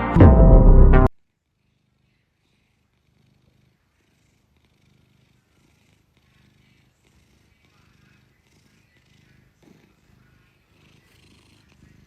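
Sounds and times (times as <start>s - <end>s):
cat purring: 1.2s - 12.0s.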